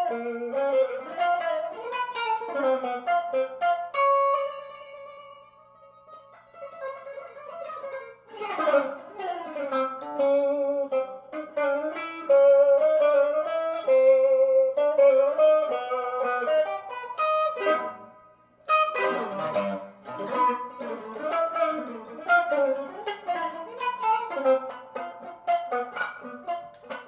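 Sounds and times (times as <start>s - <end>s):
clean electric guitar: 0.0s - 27.0s.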